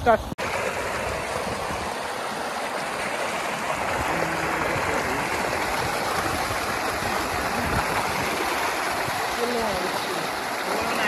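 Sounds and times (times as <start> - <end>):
water pouring into tank: 0.4 - 11.0.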